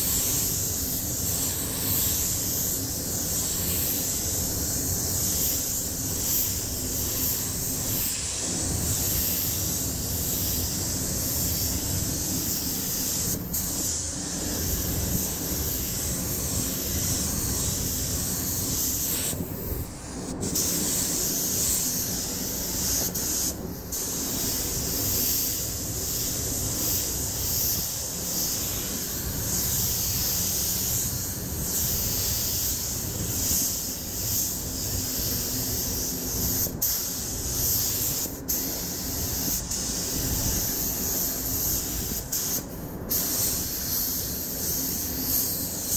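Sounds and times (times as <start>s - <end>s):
spray gun hissing: 0.0s - 45.9s.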